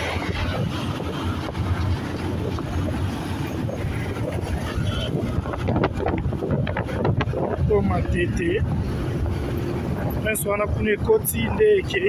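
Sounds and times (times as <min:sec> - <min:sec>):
wind on microphone: 0:00.0 - 0:11.2
road traffic: 0:00.0 - 0:12.0.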